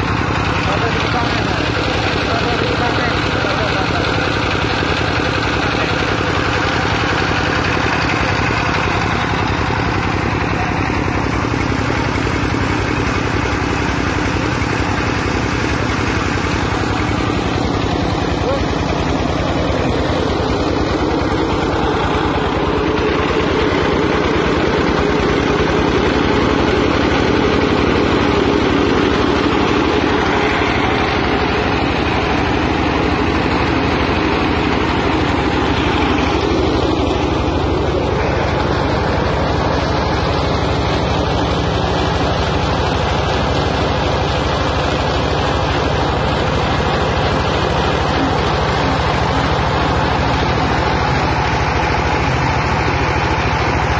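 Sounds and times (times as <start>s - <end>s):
grinding mill running: 0.0s - 53.9s.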